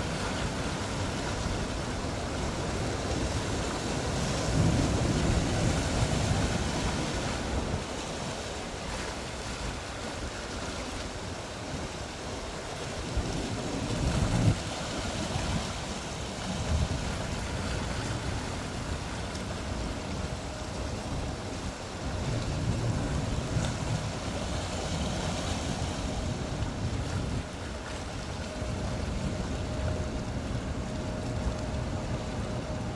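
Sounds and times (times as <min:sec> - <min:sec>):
sea waves washing: 0:00.0 - 0:32.9
wind rumbling on microphone: 0:00.0 - 0:32.9.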